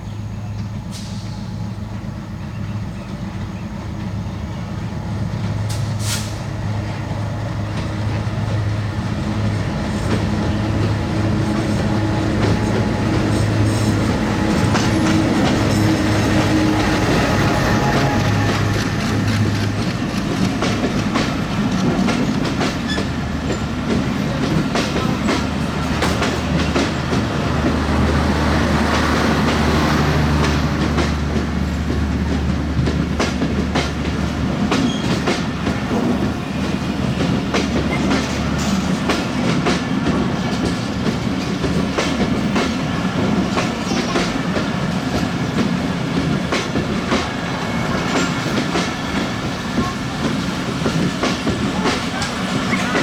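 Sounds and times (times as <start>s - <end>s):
train wheels clattering over rails: 0.4s - 53.0s.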